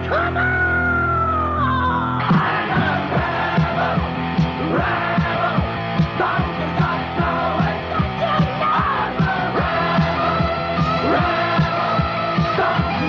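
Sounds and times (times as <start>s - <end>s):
punk rock song with shouted vocals: 0.0s - 13.0s.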